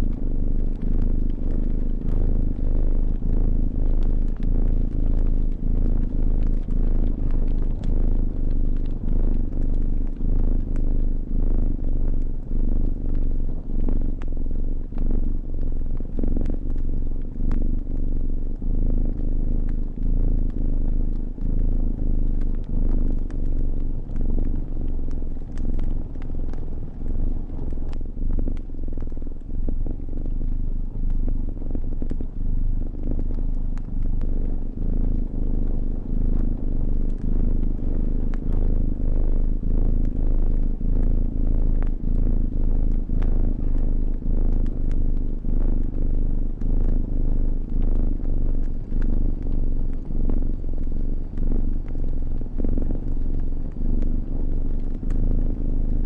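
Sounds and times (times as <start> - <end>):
cat purring: 0.0 - 56.0
fire crackling: 0.0 - 56.0.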